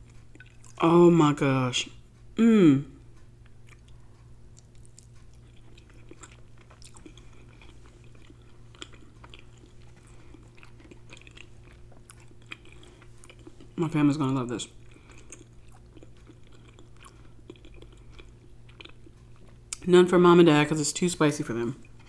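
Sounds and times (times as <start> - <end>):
person chewing: 0.0 - 0.8, 3.0 - 19.9.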